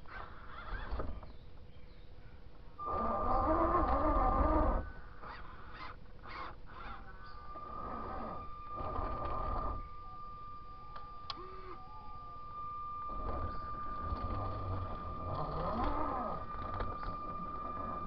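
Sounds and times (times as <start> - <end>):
steady high whine: 0.0 - 18.0
rc car motor whirring: 2.8 - 18.0.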